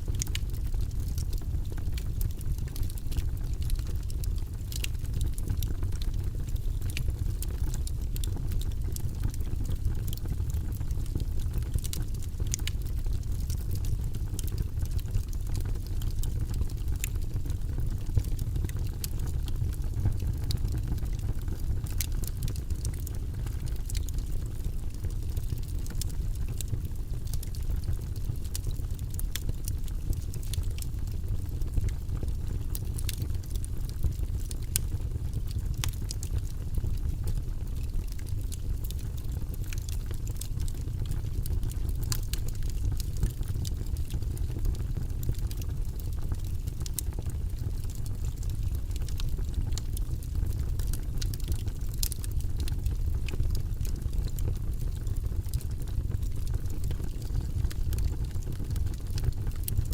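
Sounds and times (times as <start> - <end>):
fire burning in fireplace: 0.0 - 59.9.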